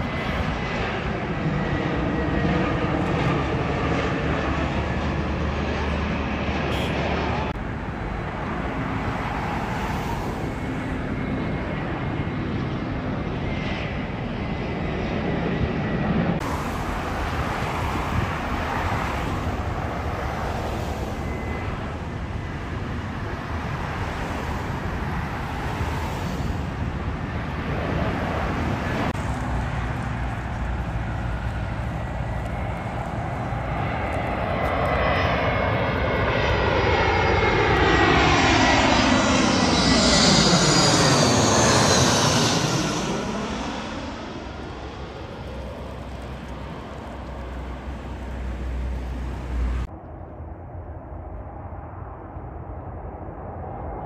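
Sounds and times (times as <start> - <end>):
jet engines rushing: 0.0 - 54.0
jet whooshing overhead: 0.0 - 54.0.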